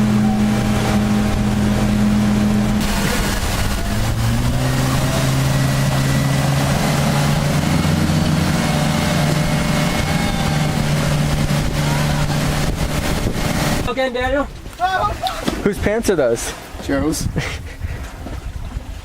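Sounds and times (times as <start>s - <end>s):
outboard motor running: 0.0s - 15.6s
wind rushing: 0.0s - 16.0s
water rushing: 0.0s - 17.2s.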